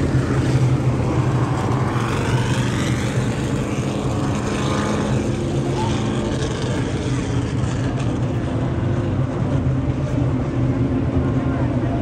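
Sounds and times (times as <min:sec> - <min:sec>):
race car engines running: 0:00.0 - 0:12.0.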